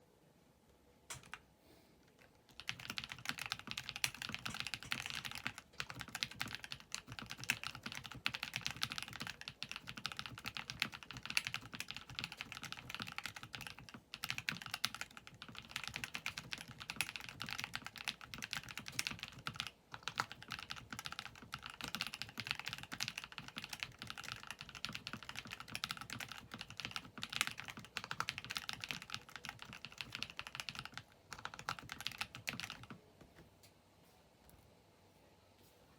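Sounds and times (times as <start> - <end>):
fast typing on mechanical keyboard: 2.2 - 33.0.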